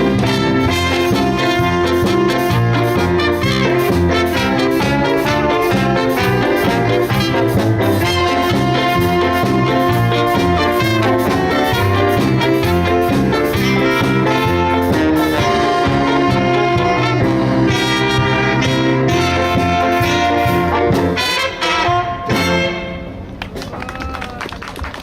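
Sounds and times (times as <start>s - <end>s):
big band playing: 0.0s - 23.8s.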